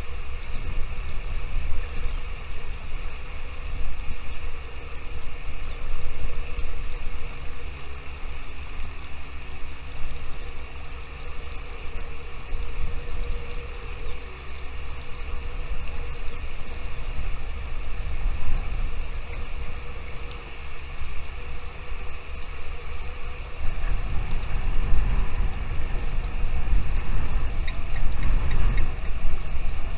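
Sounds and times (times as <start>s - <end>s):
steady hiss: 0.0s - 29.9s
wind buffeting microphone: 0.0s - 29.9s.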